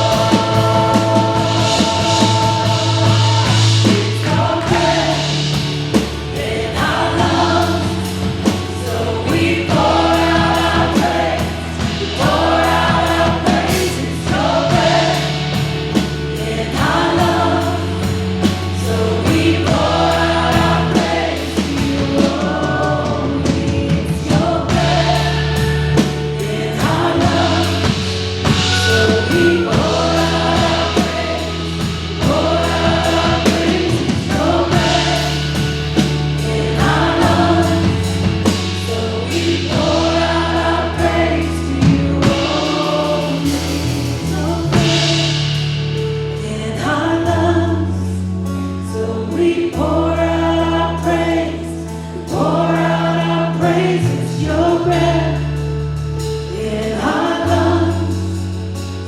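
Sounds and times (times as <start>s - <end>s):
group of voices singing: 0.0s - 59.0s
worship band playing: 0.0s - 59.0s.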